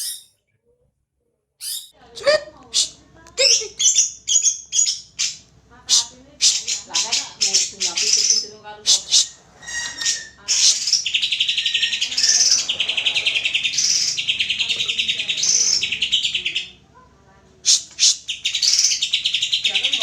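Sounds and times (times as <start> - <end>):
bird singing chattering trills: 0.0 - 0.3, 1.6 - 2.0, 2.7 - 9.3, 10.0 - 16.8, 17.7 - 20.0.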